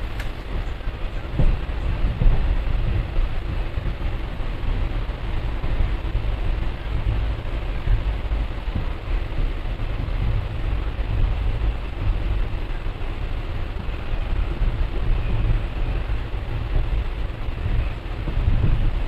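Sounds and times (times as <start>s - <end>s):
train rushing noise: 0.0s - 19.0s
train wheels rumbling on rail: 0.0s - 19.0s.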